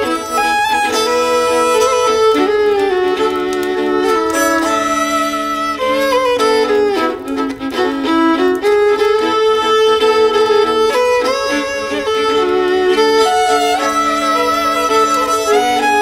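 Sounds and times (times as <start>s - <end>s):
violins playing in harmony: 0.0s - 16.0s.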